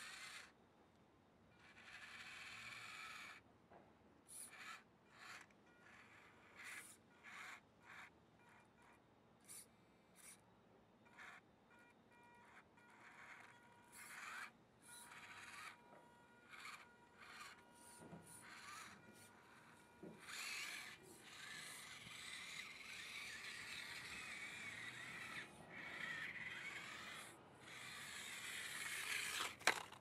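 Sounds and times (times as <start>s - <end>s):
small electric motor whining: 0.0s - 0.6s, 1.6s - 3.4s, 4.3s - 10.4s, 11.1s - 11.4s, 12.4s - 30.0s.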